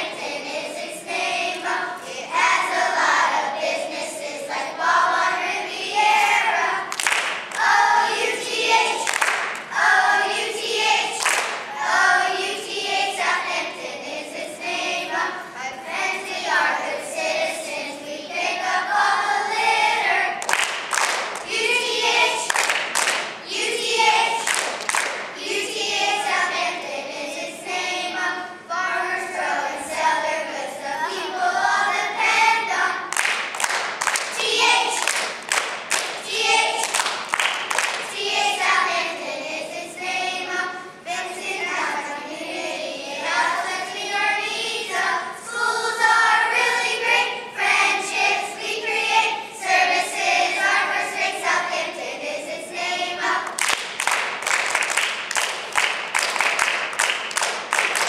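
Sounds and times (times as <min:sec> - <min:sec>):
children singing together: 0:00.0 - 0:20.5, 0:21.4 - 0:33.3, 0:34.2 - 0:35.4, 0:36.0 - 0:37.2, 0:37.8 - 0:53.6.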